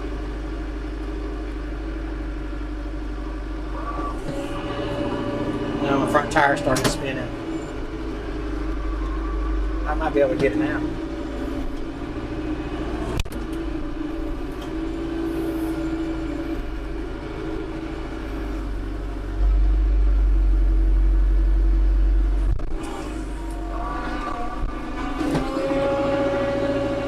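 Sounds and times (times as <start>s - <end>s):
tractor diesel engine running: 0.0s - 27.0s
deep low rumble: 3.2s - 25.7s.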